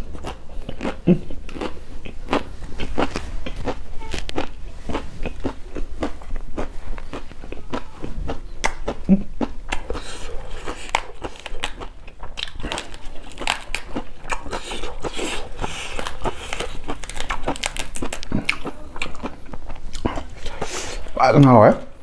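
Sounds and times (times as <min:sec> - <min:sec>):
leafy greens being torn: 0:00.0 - 0:09.1, 0:09.7 - 0:19.3.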